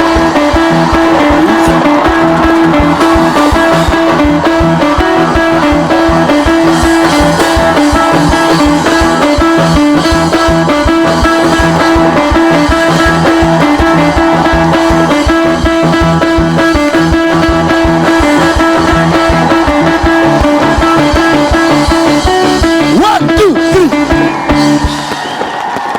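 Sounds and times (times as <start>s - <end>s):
upbeat band music: 0.0s - 25.6s
sliding whistle pitch: 0.0s - 25.9s.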